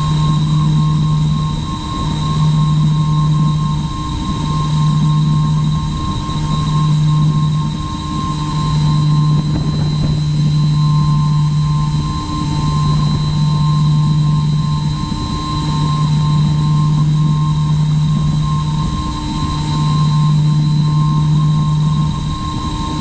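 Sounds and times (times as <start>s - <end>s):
model plane propellers droning: 0.0s - 23.0s.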